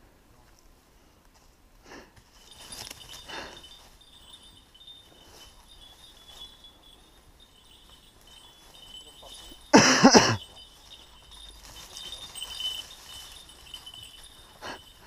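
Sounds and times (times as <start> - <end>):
dog bell collar tinkling: 2.3 - 15.0
rustling of dry bracken: 2.3 - 15.0.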